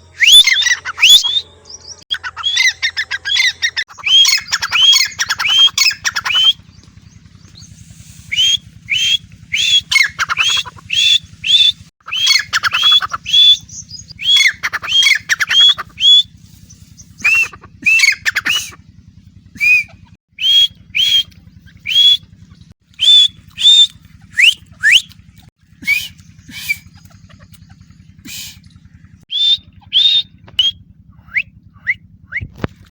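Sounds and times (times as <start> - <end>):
francolin calling: 0.0 - 18.8, 19.5 - 32.4.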